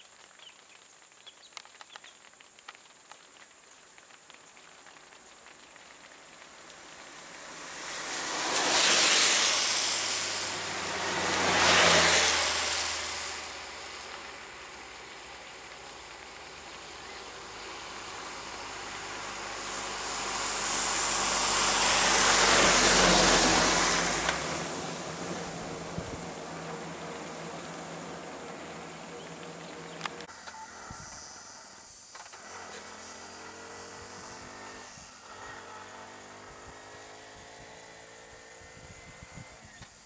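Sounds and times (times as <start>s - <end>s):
tyre hiss on wet road: 0.0s - 40.0s
vehicle engine noise: 4.9s - 40.0s.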